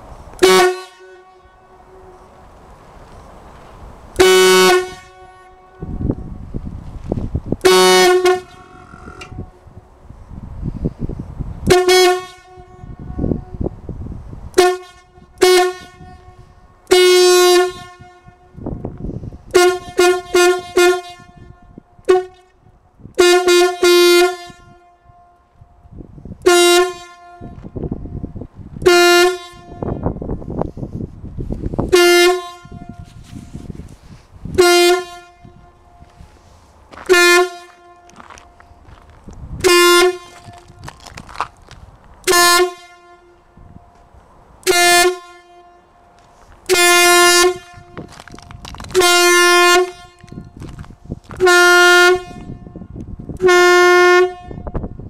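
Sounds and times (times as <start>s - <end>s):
horn blasts: 0.4s - 2.6s, 4.1s - 6.7s, 7.6s - 9.9s, 11.6s - 25.8s, 26.4s - 31.0s, 31.7s - 38.8s, 39.5s - 40.9s, 42.2s - 44.0s, 44.6s - 55.0s.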